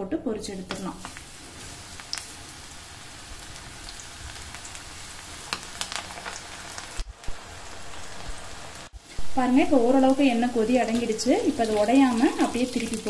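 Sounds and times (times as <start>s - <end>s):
batter sizzling in hot oil: 0.7s - 13.0s
oil crackling and popping: 0.7s - 13.0s.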